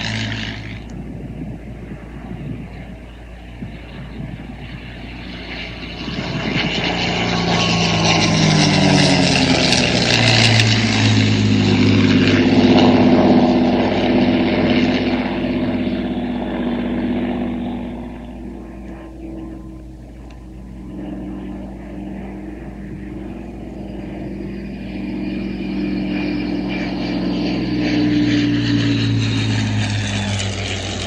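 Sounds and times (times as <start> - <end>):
aircraft engine drone flyby: 0.0 - 31.0.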